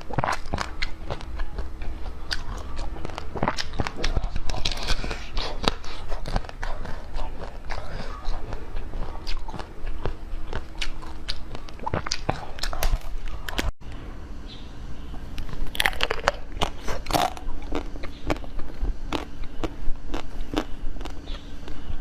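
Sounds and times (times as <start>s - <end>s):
person biting and chewing food: 0.0s - 13.7s, 15.4s - 22.0s.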